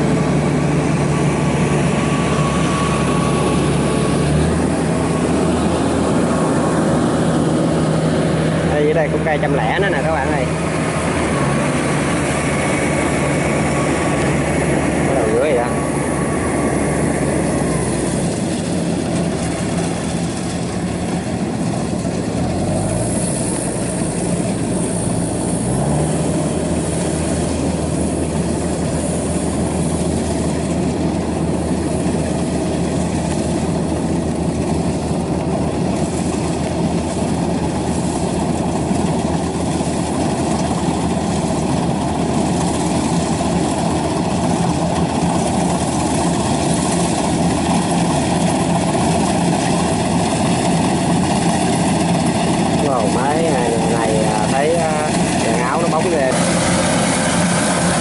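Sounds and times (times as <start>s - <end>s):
diesel engine drone: 0.0s - 58.0s
threshing machinery rushing: 0.0s - 58.0s.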